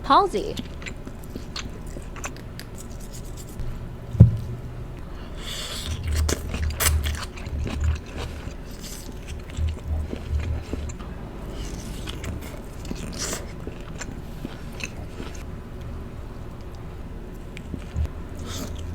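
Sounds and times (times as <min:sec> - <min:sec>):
wet chewing: 0:00.5 - 0:03.6, 0:04.3 - 0:18.9.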